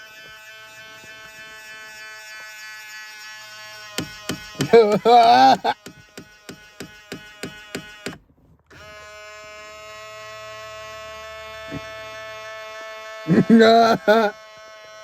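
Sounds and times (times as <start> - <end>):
mirror motor clicking and buzzing: 0.0 - 15.0.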